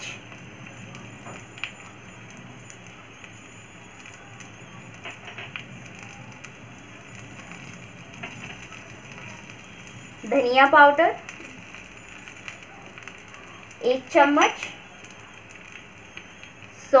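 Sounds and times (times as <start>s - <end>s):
chillies sizzling in oil: 0.0s - 17.0s
faint crackles: 0.0s - 17.0s.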